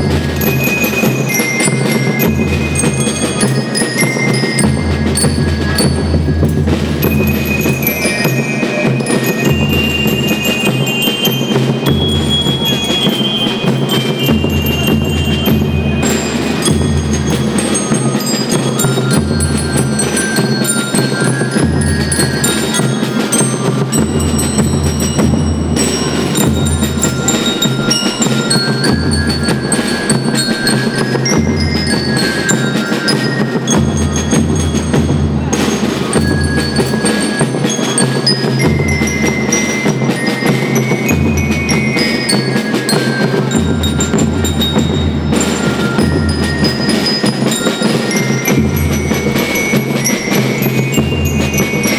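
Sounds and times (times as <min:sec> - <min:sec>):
bell lyres playing melody: 0:00.0 - 0:51.9
snare drums: 0:00.0 - 0:51.9.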